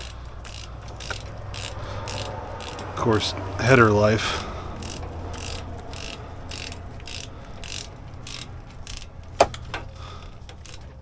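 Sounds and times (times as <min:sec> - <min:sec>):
ratchet wrench clicking: 0:00.0 - 0:11.0.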